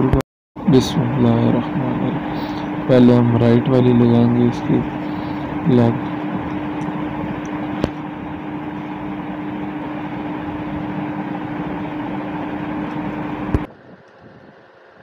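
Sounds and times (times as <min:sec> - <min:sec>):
machine hum with whooshing: 0:00.0 - 0:15.0.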